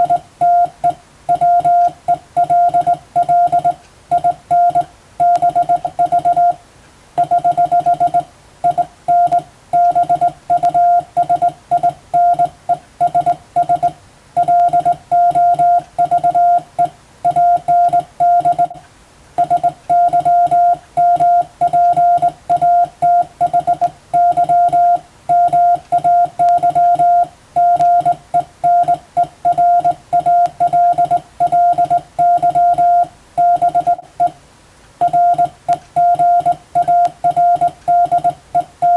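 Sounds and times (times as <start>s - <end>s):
morse code tone: 0.0s - 6.6s, 7.2s - 18.8s, 19.4s - 34.4s, 35.0s - 38.9s.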